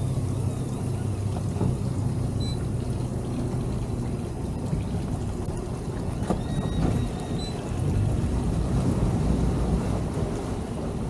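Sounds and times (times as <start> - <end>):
outboard motor running: 0.0 - 11.0
propeller wash splashing: 0.0 - 11.0.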